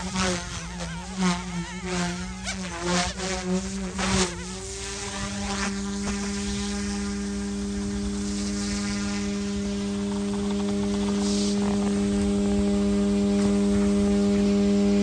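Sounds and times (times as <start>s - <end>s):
rc helicopter motor buzzing: 0.0s - 15.0s.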